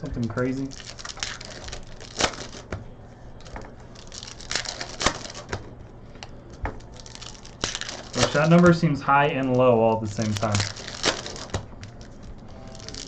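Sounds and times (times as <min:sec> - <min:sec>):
cards clicking and rustling: 0:00.1 - 0:13.0.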